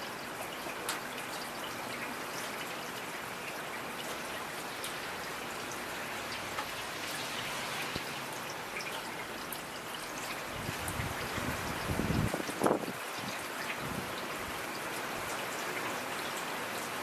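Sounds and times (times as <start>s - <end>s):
raindrops ticking on a surface: 0.0s - 17.0s
steady rain hiss: 0.0s - 17.0s.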